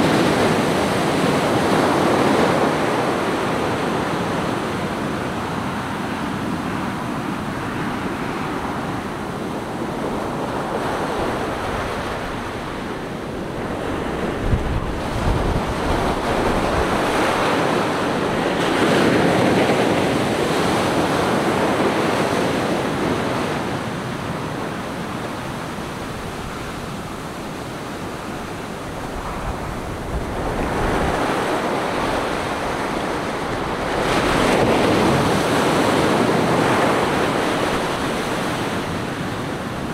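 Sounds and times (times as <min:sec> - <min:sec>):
waves breaking on shore: 0:00.0 - 0:39.9
wind buffeting microphone: 0:00.0 - 0:39.9.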